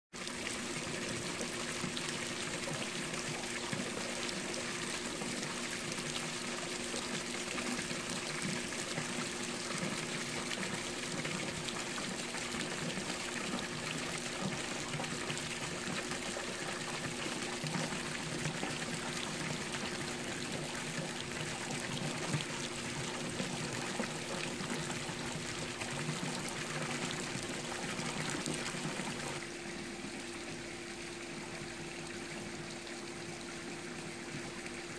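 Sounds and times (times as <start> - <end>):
pool water splashing: 0.2 - 34.9.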